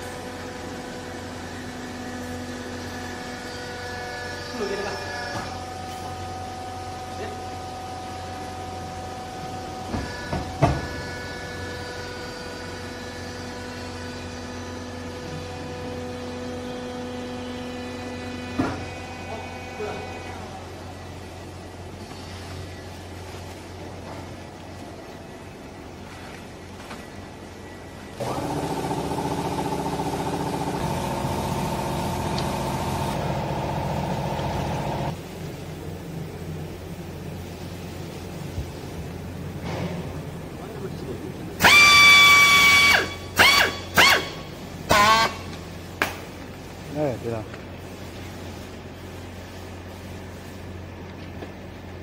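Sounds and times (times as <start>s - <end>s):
machine hum: 0.0s - 52.0s.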